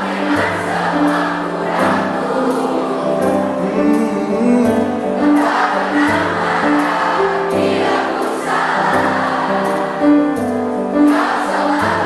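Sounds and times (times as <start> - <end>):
crowd singing along: 0.0 - 12.0
live pop band: 0.0 - 12.0
steady drum beat: 0.0 - 12.0.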